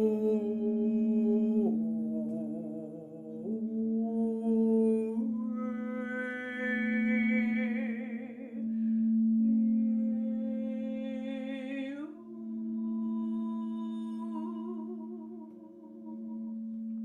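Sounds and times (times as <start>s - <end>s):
woman humming: 0.0s - 8.7s, 9.7s - 17.0s
singing bowl drone: 0.0s - 17.0s.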